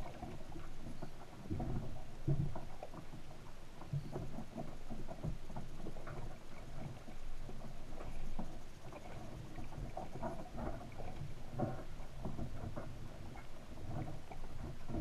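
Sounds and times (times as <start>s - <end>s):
underwater rumble of moving water: 0.0s - 15.0s.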